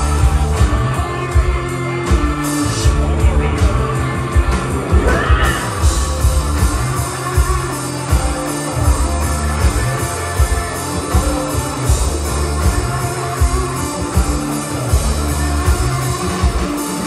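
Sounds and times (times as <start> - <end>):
pulsing bass and kick drum: 0.0 - 17.0
rock band playing: 0.0 - 17.0.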